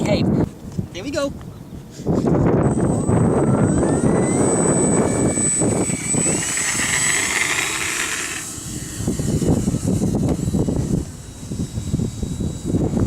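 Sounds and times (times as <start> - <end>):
electric motor and propeller whining: 0.0 - 13.0
wind buffeting microphone: 0.0 - 13.0.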